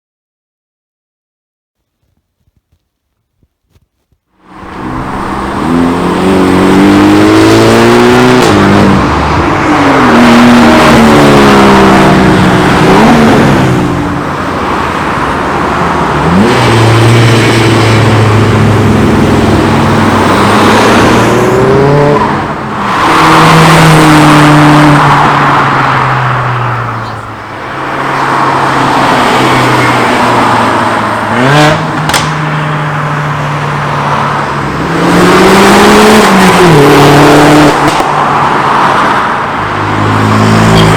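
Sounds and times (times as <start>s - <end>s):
cars accelerating past: 4.5s - 40.9s.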